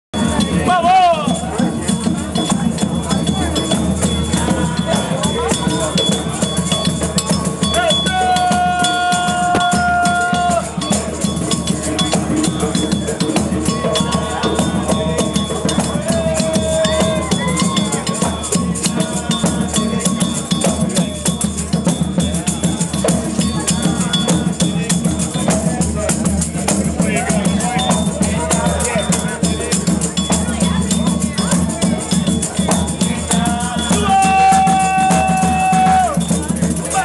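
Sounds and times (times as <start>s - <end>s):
fast hand percussion: 0.1s - 37.0s
voices: 0.2s - 37.0s.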